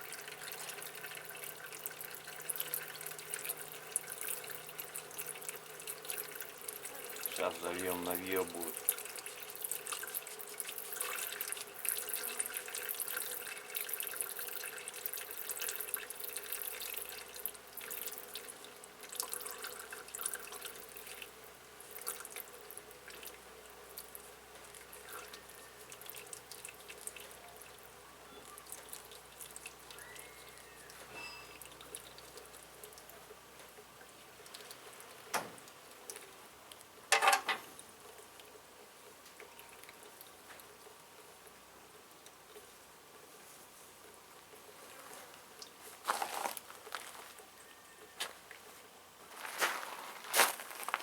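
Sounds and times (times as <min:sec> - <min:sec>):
oil trickling and dripping: 0:00.0 - 0:47.5.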